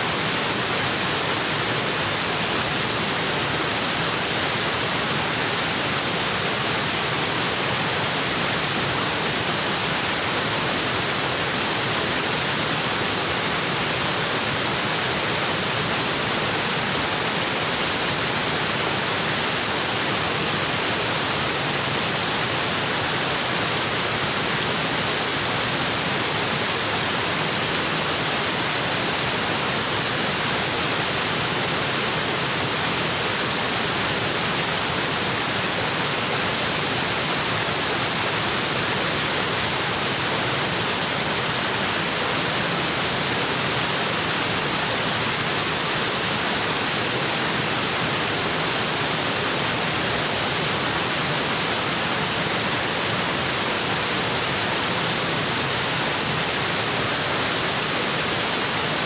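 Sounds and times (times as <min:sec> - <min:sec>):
waterfall onto rocks: 0:00.0 - 0:59.0.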